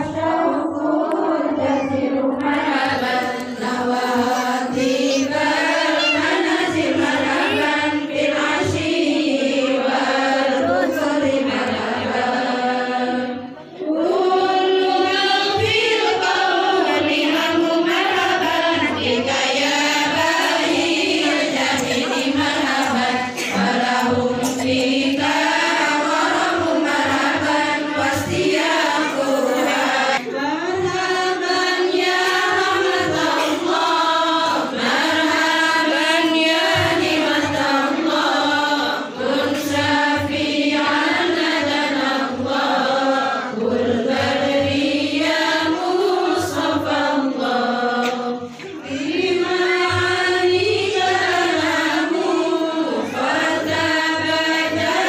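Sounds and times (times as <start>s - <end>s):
women chanting in unison: 0.0s - 55.0s.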